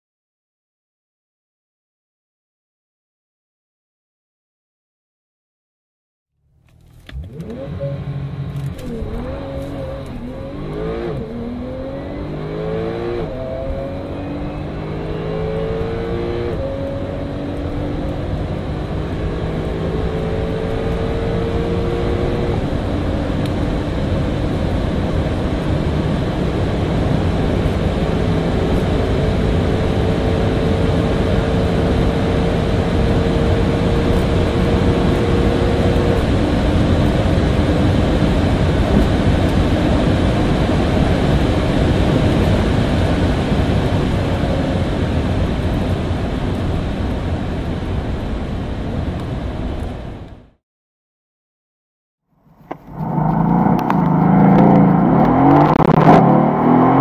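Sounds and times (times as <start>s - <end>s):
car engine accelerating: 6.4s - 50.5s, 52.4s - 57.0s
wind and road noise: 6.5s - 50.6s, 52.4s - 57.0s.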